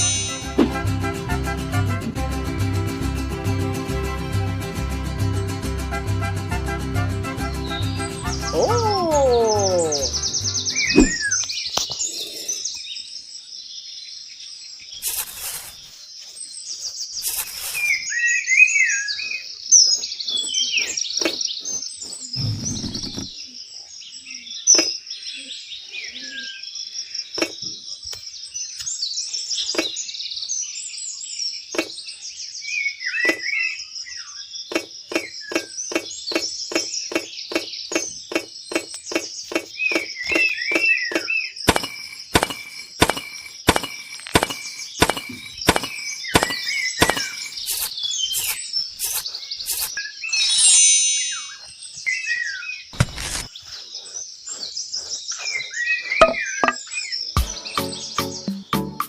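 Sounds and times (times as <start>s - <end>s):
small birds chirping: 7.5s - 59.0s.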